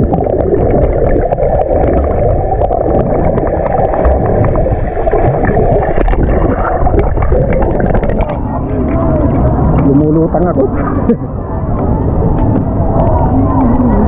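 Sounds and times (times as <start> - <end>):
underwater clicks and crackles: 0.0 - 14.0
underwater rumble and gurgle: 0.0 - 14.0.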